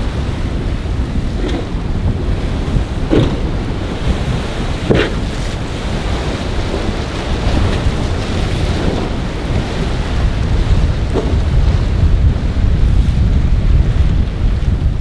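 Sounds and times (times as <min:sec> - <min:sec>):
boat running through chop: 0:00.0 - 0:15.0
surf wash: 0:00.0 - 0:15.0
wind buffeting microphone: 0:00.0 - 0:15.0.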